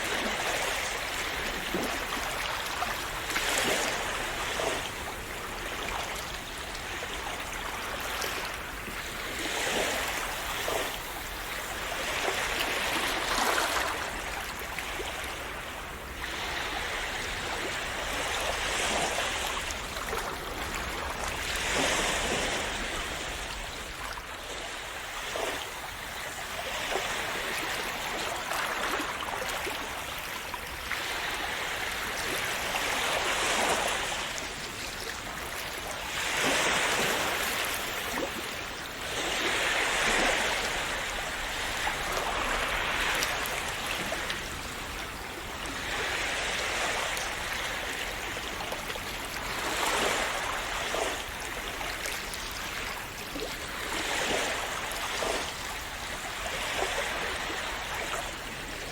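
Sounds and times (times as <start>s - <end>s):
sea waves washing ashore: 0.0s - 58.9s.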